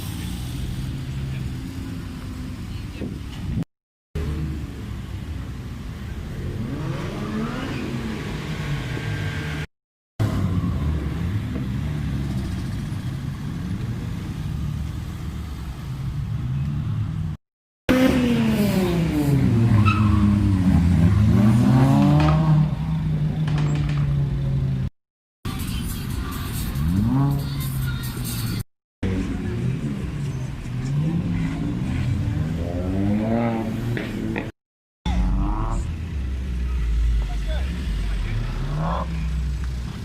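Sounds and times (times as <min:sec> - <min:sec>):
car engines revving: 0:00.0 - 0:24.9, 0:25.5 - 0:40.0.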